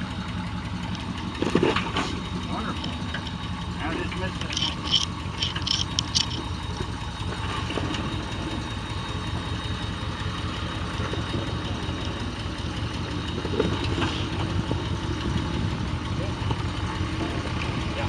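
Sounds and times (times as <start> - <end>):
truck engine running at low revs: 0.0 - 18.0.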